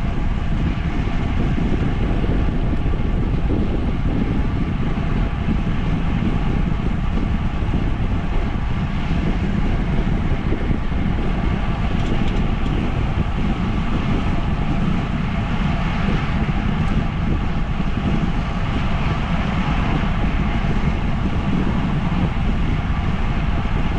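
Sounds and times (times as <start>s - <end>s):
rolling road noise: 0.0s - 23.9s
wind rushing over microphone: 0.0s - 23.9s.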